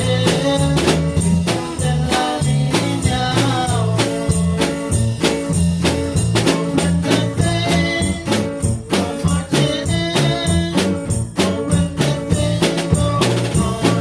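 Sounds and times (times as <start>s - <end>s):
drum kit beat: 0.0s - 14.0s
live band gospel instrumental: 0.0s - 14.0s.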